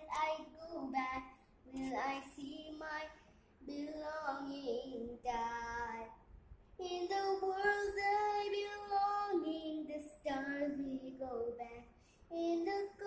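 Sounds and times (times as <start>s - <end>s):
girl singing: 0.0s - 6.2s, 6.8s - 13.0s.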